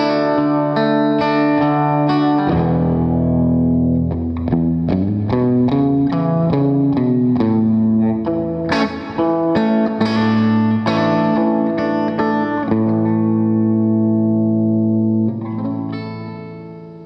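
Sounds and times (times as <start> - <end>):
electric guitar chords: 0.0 - 17.0.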